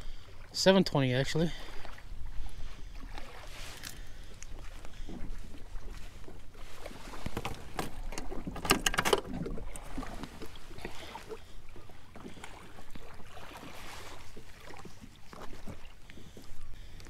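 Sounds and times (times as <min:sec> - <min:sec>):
water lapping against plastic hull: 0:00.0 - 0:17.0.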